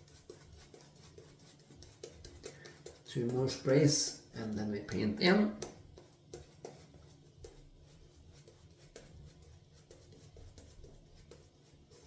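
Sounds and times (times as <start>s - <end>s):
shaving brush strokes on face: 0.0s - 12.0s.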